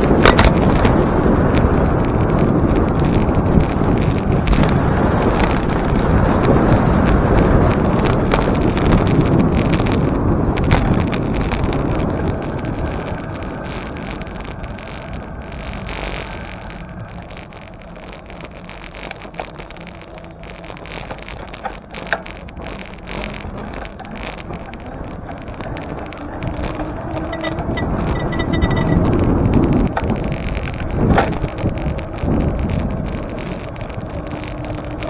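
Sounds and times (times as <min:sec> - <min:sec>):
bicycle tyre and road noise: 0:00.0 - 0:35.0
wind rushing over microphone: 0:00.0 - 0:35.0.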